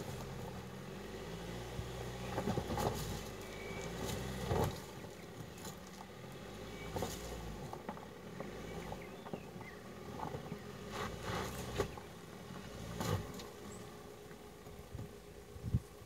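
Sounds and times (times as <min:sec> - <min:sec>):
engine labouring: 0:00.0 - 0:16.0.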